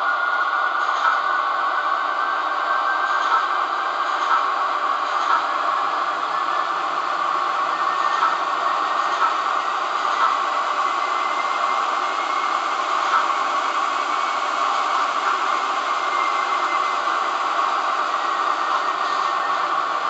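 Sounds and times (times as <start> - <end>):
model locomotive running noise: 0.0 - 20.0.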